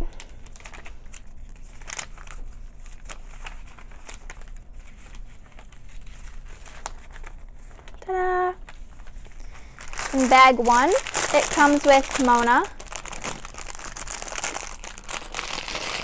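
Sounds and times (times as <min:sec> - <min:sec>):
paper rustling: 0:00.2 - 0:08.0, 0:08.6 - 0:16.0.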